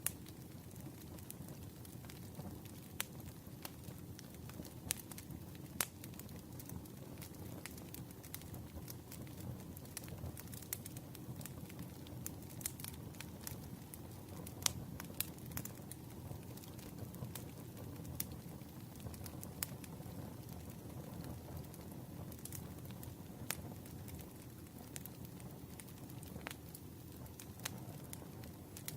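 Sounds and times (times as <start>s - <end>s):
low rush of flame: 0.0s - 28.9s
wood crackling and popping: 0.0s - 28.9s.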